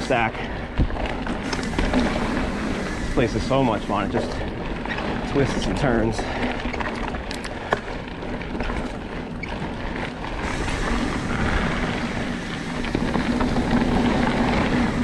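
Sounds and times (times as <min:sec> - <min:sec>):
bike tyres rolling on dirt: 0:00.0 - 0:15.0.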